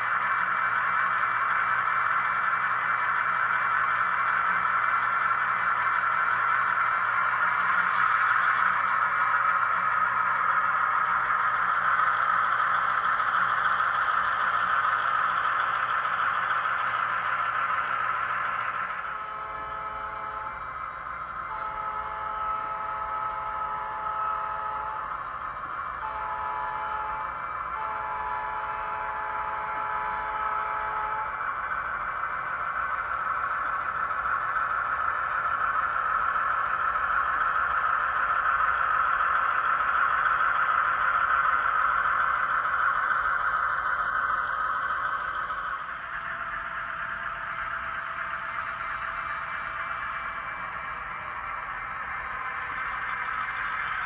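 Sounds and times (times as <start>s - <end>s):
model train motor whir: 0.0s - 54.0s
simulated diesel engine sound: 0.0s - 54.0s.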